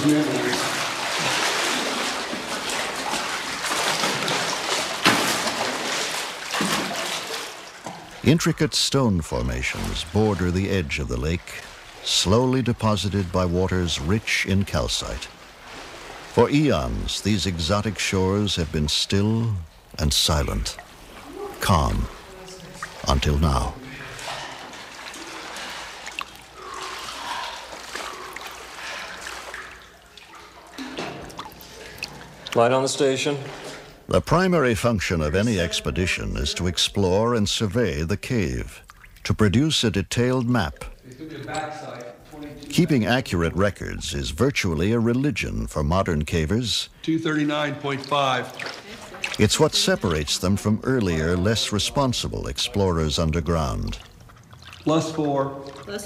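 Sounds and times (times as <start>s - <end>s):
water splashing from swimming: 0.0s - 56.0s.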